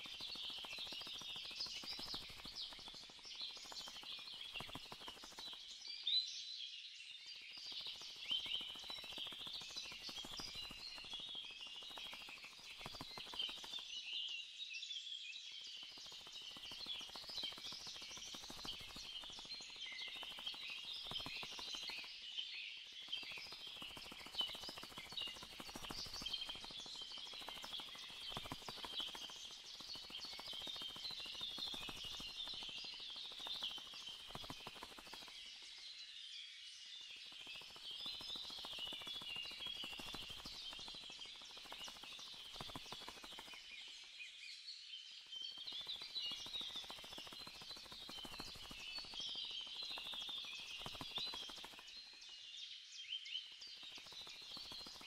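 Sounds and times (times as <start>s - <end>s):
flock of small birds twittering: 0.0s - 55.0s.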